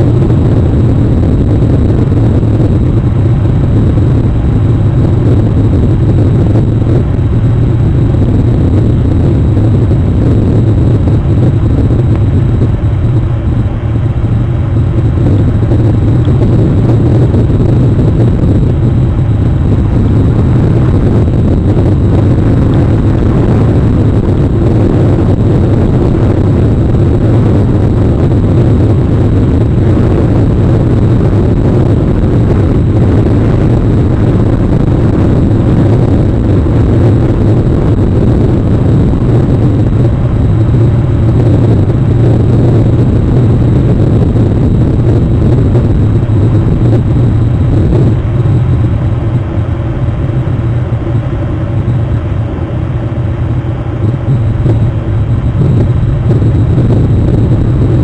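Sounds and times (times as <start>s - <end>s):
rain rumbling on microphone: 0.0s - 51.1s, 53.9s - 58.0s.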